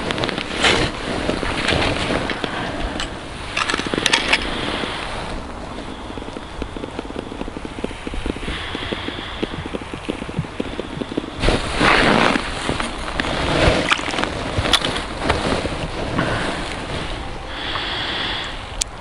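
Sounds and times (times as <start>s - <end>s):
clothing rustling and crackling: 0.0s - 17.7s
wind buffeting the microphone: 0.0s - 19.0s.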